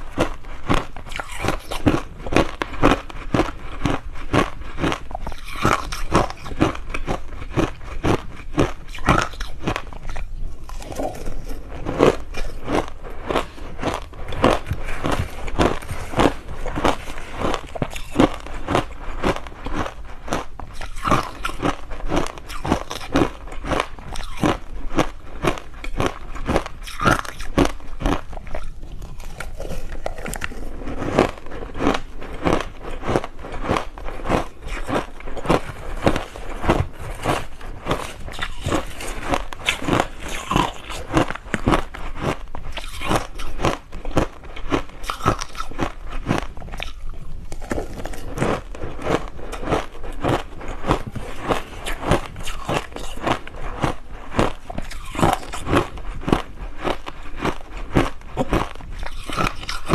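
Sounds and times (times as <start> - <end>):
crushed ice being chewed: 0.0 - 59.9.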